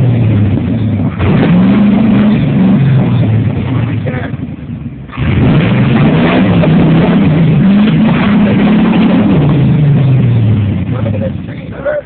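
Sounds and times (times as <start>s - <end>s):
engine revving loudly: 0.0s - 11.5s.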